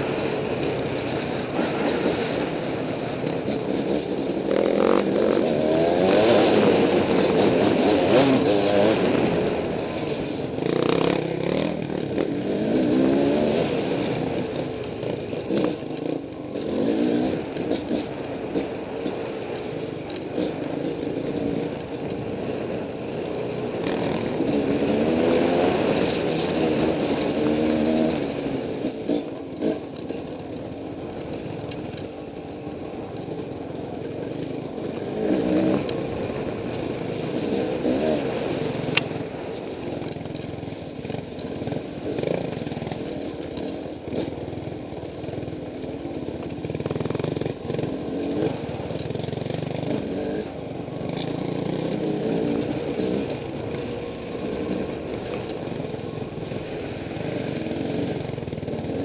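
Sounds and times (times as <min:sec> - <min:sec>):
dirt bike engine revving: 0:03.3 - 0:32.2, 0:33.0 - 0:59.0.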